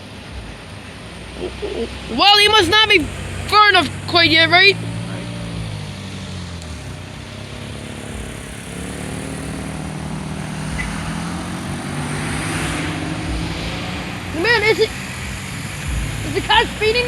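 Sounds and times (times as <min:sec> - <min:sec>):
tyre noise: 0:00.0 - 0:17.0
vehicle engines passing: 0:00.0 - 0:17.0.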